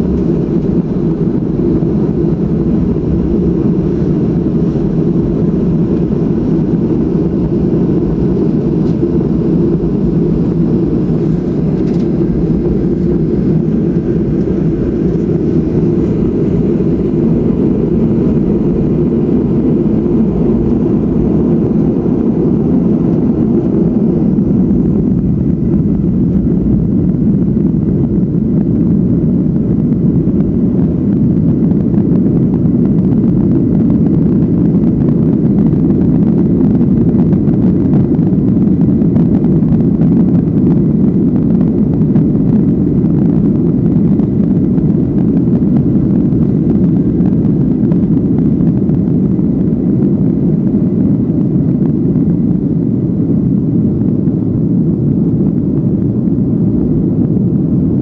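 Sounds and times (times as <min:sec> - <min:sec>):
airframe rumble: 0:00.0 - 0:58.0
jet engines droning: 0:00.0 - 0:58.0.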